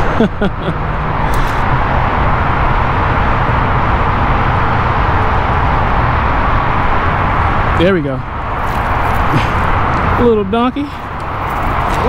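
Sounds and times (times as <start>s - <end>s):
freeway traffic roar: 0.0s - 12.0s.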